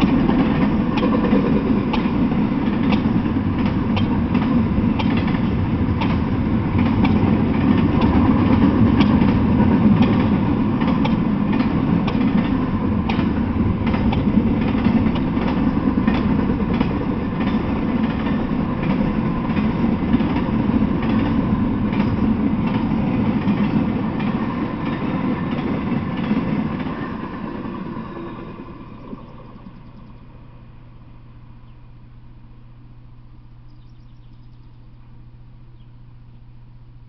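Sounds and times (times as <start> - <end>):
rail cars clicking and clanking: 0.0 - 30.3
freight train rumbling past: 0.0 - 37.0.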